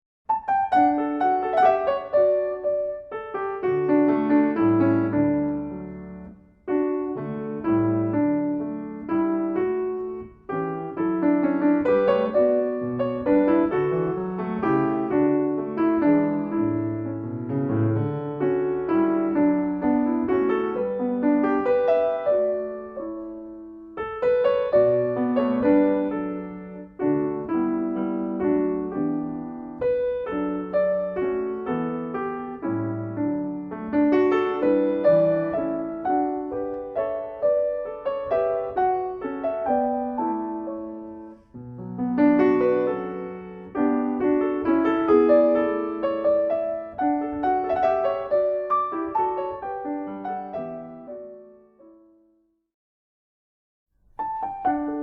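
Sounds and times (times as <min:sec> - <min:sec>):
piano melody over chords: 0:00.3 - 0:52.3, 0:54.1 - 0:55.0.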